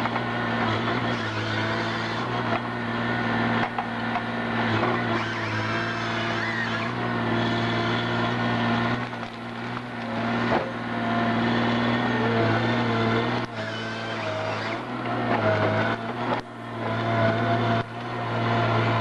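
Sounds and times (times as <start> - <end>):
heavy machinery engine running: 0.0 - 19.0
whining tones: 0.0 - 19.0.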